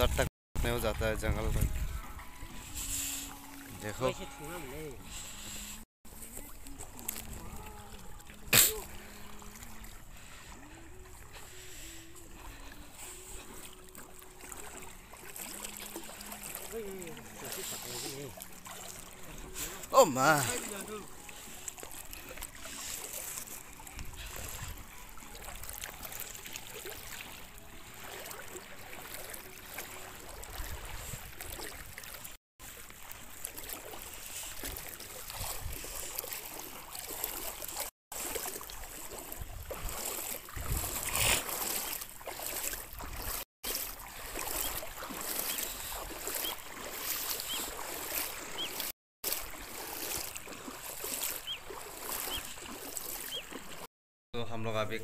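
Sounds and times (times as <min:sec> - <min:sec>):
people wading through water: 0:00.0 - 0:53.9.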